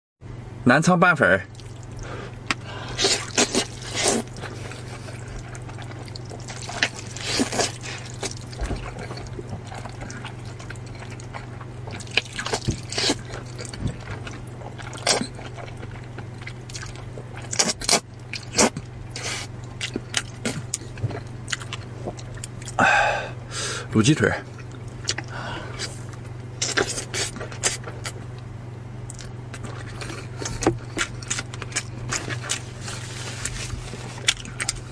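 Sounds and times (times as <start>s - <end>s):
low steady hum: 0.2s - 34.9s
noodle slurping and chewing: 1.6s - 22.8s, 24.6s - 28.2s, 29.1s - 34.9s.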